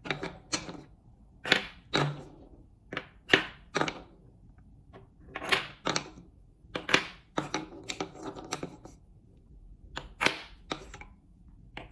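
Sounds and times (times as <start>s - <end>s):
wooden balls clacking: 0.0s - 9.0s, 9.8s - 11.9s.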